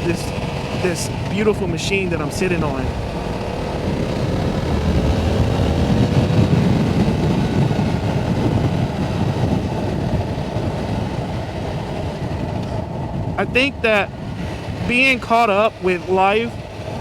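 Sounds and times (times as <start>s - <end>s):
motorbike engine running: 0.0s - 17.0s
wind rush on microphone: 0.0s - 17.0s.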